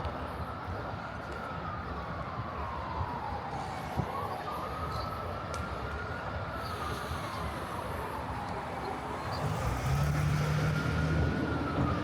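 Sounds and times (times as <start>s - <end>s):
city street traffic: 0.0s - 12.0s
distant siren wailing: 1.3s - 12.0s.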